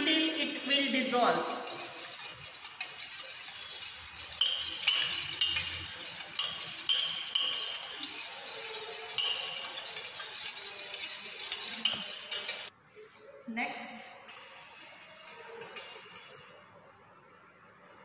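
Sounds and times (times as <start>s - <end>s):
spoon scraping metal pot: 0.4s - 12.7s, 14.1s - 16.8s.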